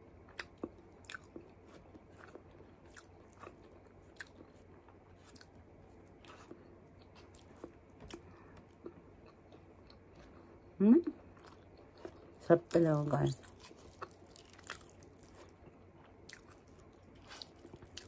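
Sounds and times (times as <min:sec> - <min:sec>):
person chewing food: 0:00.2 - 0:12.4, 0:13.3 - 0:18.0.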